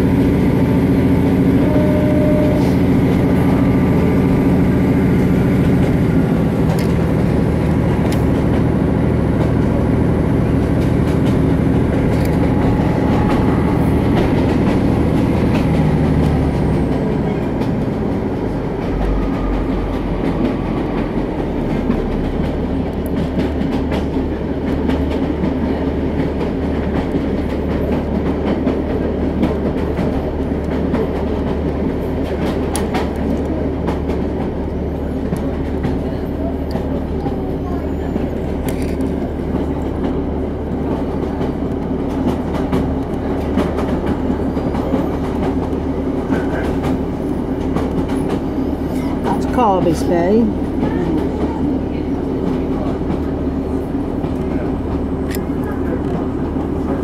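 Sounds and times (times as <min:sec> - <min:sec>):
rail clicks: 0:00.0 - 0:57.0
train wheels rumbling on track: 0:00.0 - 0:57.0.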